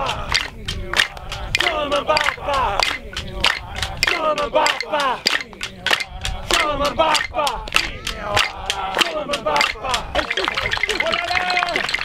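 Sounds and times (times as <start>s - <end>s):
men chanting together: 0.0s - 11.8s
fast sharp clicking beat: 0.0s - 12.0s.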